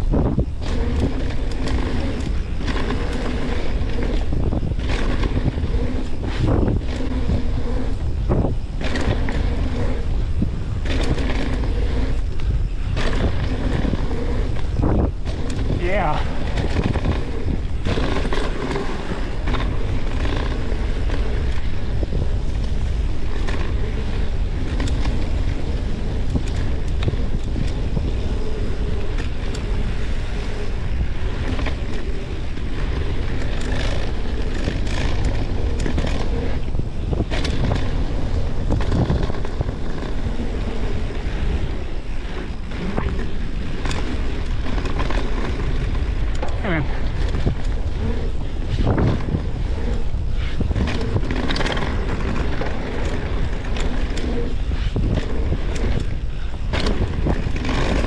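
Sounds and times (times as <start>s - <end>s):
bike knocks and rattles: 0.0s - 58.0s
knobby tyres on dirt: 0.0s - 58.0s
wind buffeting microphone: 0.0s - 58.0s.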